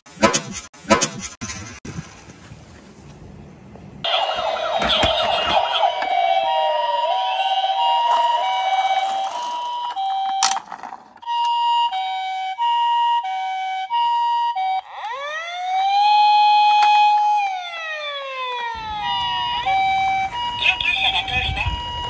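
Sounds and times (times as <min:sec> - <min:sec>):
toy electronic siren: 0:04.0 - 0:22.0.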